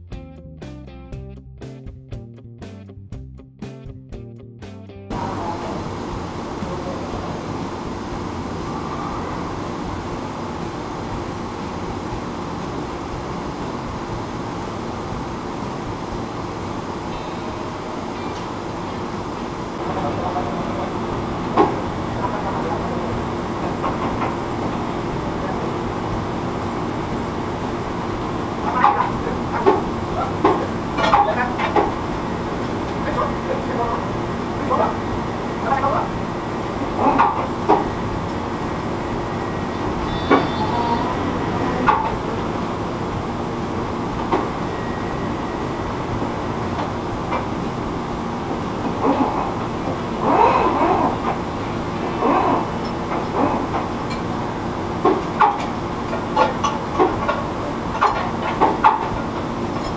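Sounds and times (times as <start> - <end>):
machinery drone: 5.1 - 59.9.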